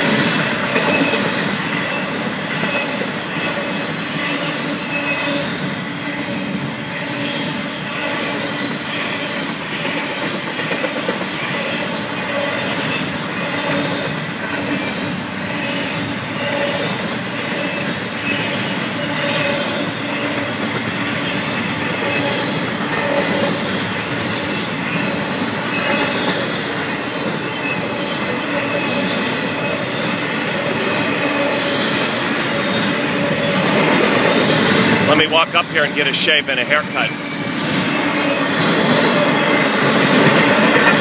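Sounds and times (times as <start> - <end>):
freight train rolling past: 0.0 - 41.0.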